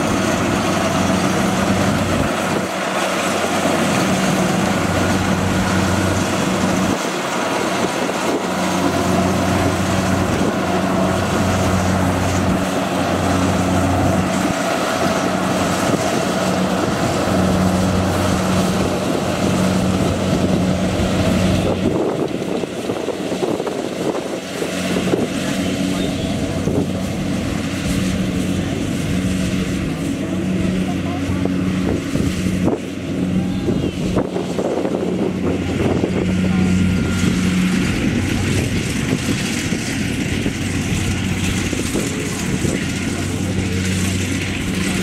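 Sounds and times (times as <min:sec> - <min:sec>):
combine harvester engine hum: 0:00.0 - 0:45.0
mechanical rushing noise: 0:00.0 - 0:45.0.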